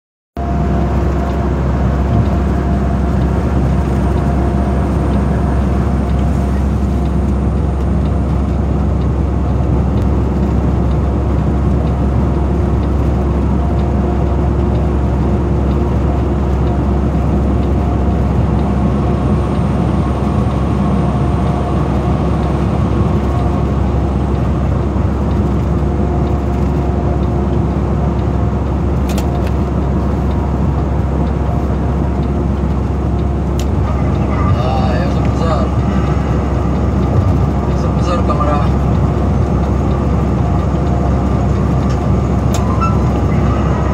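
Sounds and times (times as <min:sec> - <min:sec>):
road and wind noise: 0:00.4 - 0:43.9
truck engine drone: 0:00.4 - 0:43.9.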